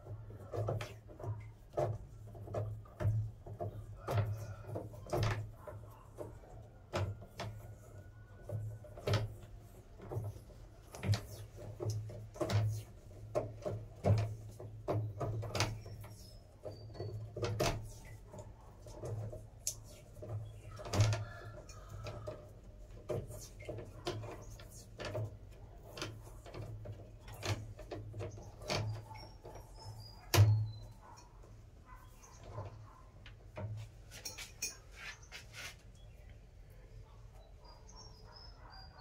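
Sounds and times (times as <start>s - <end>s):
clicks and rattles of wires: 0.0s - 36.4s.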